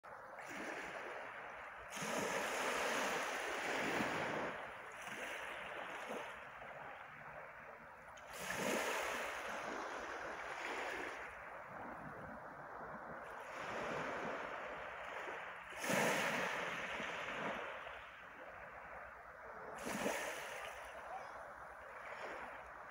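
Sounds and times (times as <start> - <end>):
waves washing over pebbles: 0.4 - 12.6, 13.2 - 18.8, 19.7 - 22.9.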